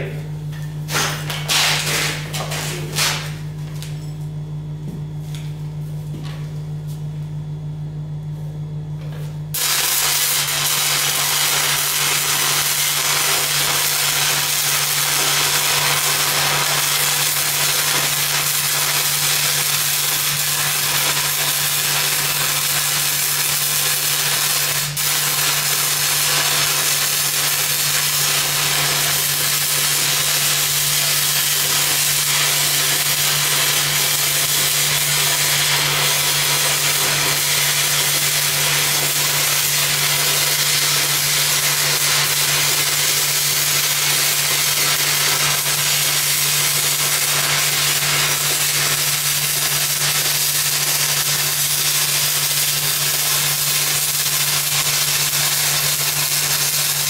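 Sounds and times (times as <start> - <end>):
welder engine humming: 0.0 - 57.0
welding arc crackling hiss: 0.8 - 4.0, 9.5 - 57.0.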